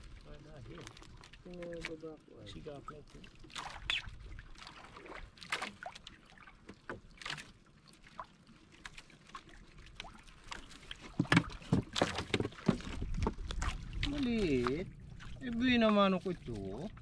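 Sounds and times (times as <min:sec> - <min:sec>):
water slapping around boat: 0:00.0 - 0:17.0.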